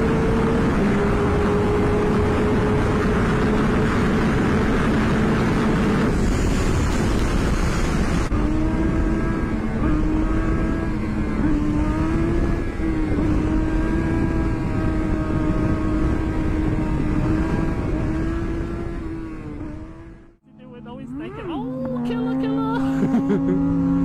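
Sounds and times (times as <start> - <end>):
wind rush on microphone: 0.0 - 20.2
motorcycle engine at high revs: 0.0 - 24.0.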